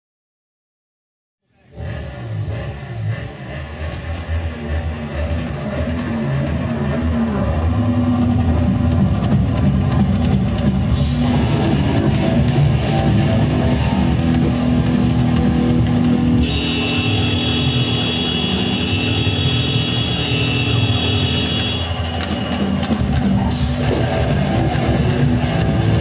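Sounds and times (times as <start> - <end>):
electric guitar: 1.8 - 26.0
drum kit: 3.9 - 26.0.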